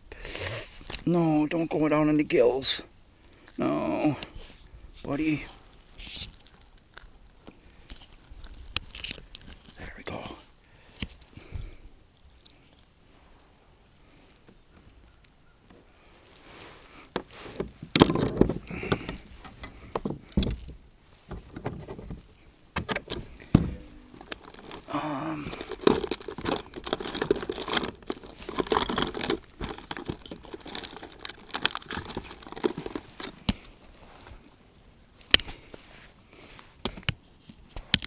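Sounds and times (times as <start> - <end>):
rustling and crinkling gear: 3.2 - 38.0.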